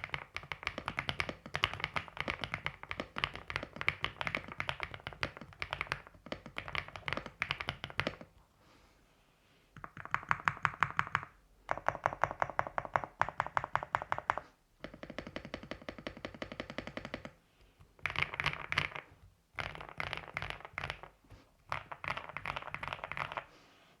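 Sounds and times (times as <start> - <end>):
fast typing on mechanical keyboard: 0.0 - 8.3, 9.8 - 17.4, 18.0 - 23.5.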